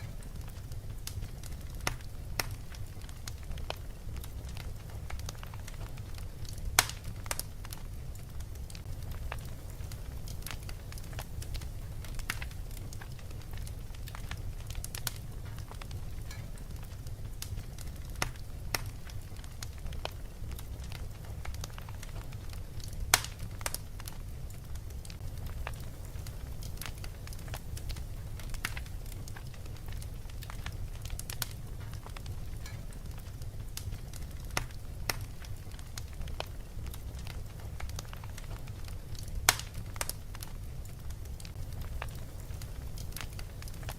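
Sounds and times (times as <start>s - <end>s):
fire crackling and popping: 0.0s - 43.9s
steady low rumble: 0.0s - 43.9s.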